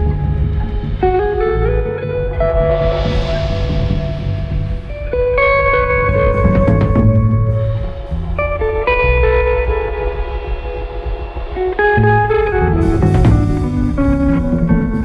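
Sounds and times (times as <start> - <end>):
instrumental guitar music: 0.0 - 15.0.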